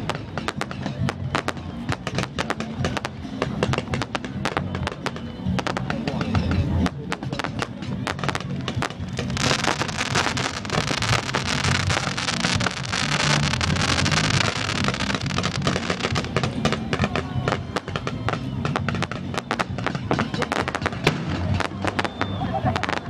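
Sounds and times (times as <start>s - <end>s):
aerial fireworks bursting: 0.0s - 23.0s
crackling fireworks shower: 0.0s - 23.0s
loud music: 0.0s - 23.0s.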